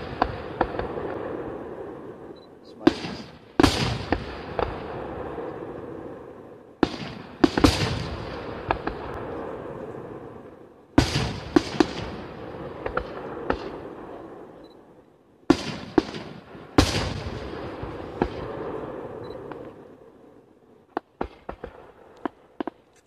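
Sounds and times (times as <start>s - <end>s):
firework bangs: 0.0s - 14.6s, 15.4s - 20.2s, 20.8s - 22.8s.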